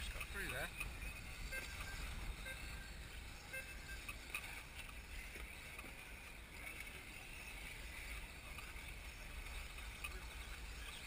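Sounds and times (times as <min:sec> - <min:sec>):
electric toy cars whining: 0:00.0 - 0:11.0.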